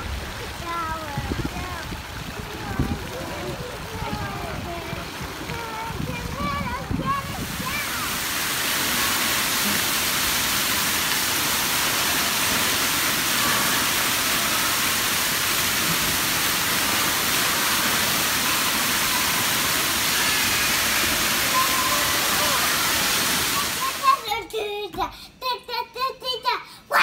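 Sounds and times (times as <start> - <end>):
water rushing down slides: 0.0 - 24.4.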